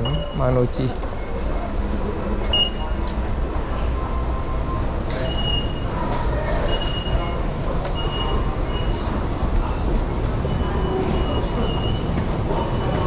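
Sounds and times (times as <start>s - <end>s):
concourse hubbub: 0.0s - 13.0s.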